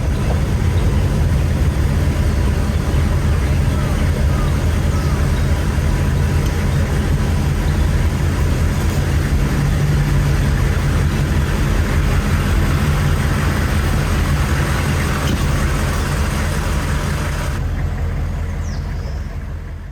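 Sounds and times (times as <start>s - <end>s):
engine idling with rough clatter: 0.0s - 19.9s.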